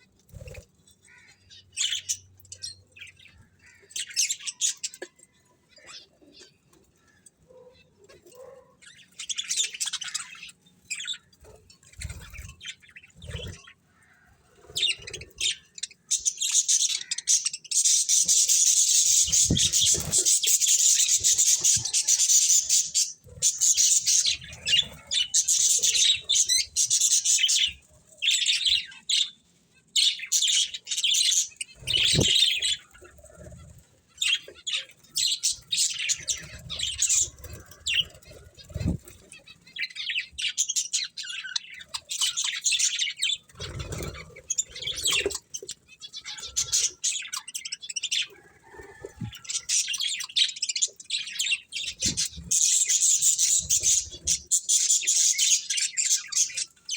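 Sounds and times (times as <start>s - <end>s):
budgerigars chirping and warbling: 0.0s - 56.9s.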